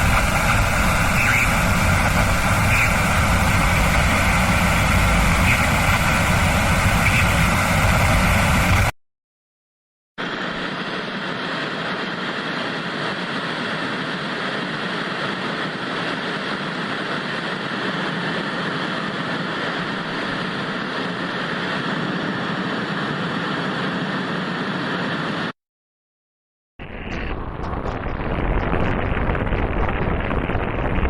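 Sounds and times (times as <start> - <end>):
tv static hiss: 0.0 - 8.9, 10.2 - 25.5, 26.8 - 31.0.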